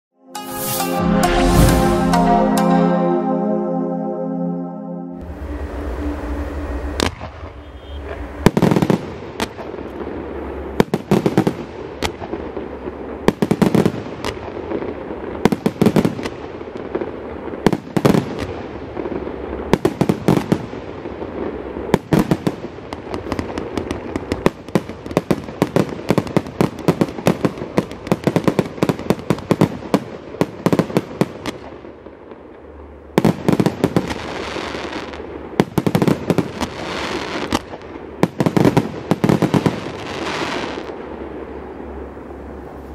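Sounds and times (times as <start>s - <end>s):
fireworks launching and bursting: 5.3s - 31.8s, 33.2s - 41.7s.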